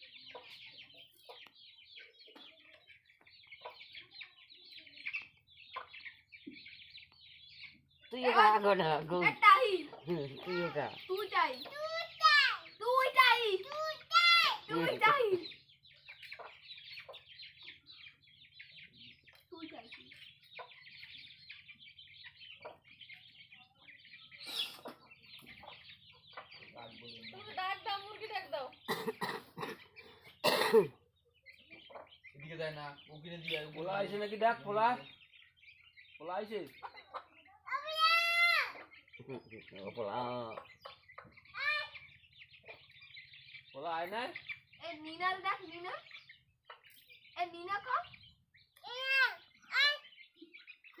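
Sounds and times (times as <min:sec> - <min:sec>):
chicks peeping: 0:00.0 - 0:51.0
hen clucking: 0:00.0 - 0:51.0.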